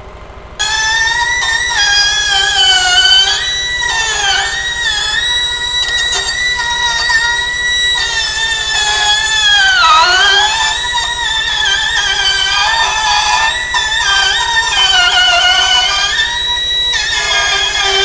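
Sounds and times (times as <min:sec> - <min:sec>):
die grinder whining on steel: 0:00.6 - 0:18.0.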